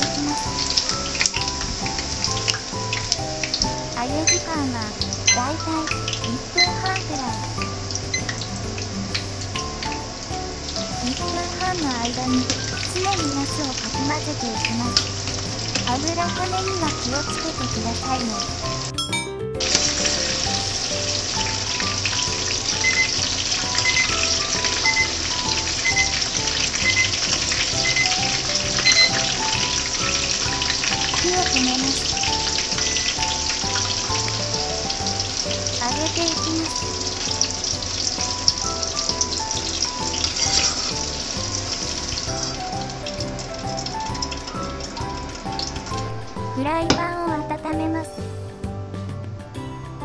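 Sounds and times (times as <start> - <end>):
oil sizzling and crackling: 0.0 - 47.0
light background music: 0.0 - 50.0.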